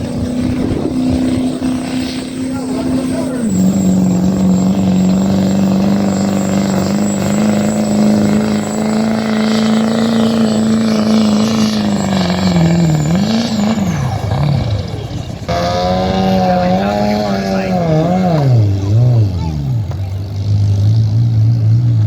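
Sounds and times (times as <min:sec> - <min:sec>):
thin high whine: 0:00.0 - 0:19.0
vehicle engine running hard: 0:00.0 - 0:22.0.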